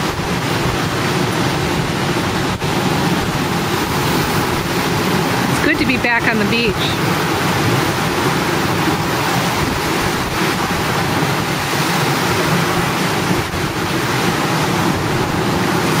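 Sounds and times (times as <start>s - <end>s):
ocean surf washing ashore: 0.0s - 16.0s
wind on microphone: 0.0s - 16.0s.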